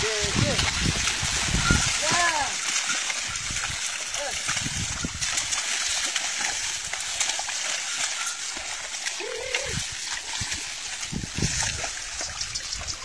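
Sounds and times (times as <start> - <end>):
mud and water splashing: 0.0 - 13.0.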